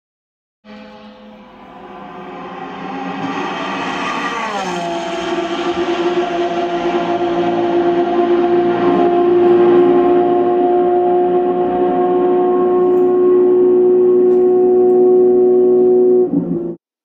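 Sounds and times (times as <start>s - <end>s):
racing car engine at high revs: 0.7s - 16.8s.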